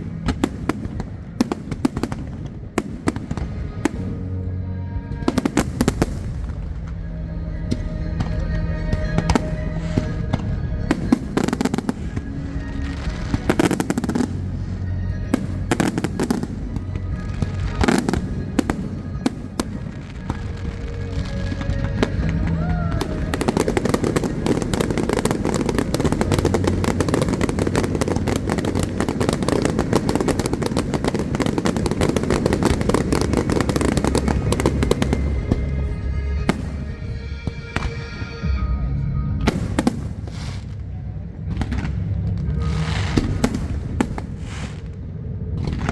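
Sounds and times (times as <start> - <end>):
show music: 0.0 - 44.9
fireworks bangs: 0.0 - 45.9
fireworks crackling barrage: 0.0 - 45.9.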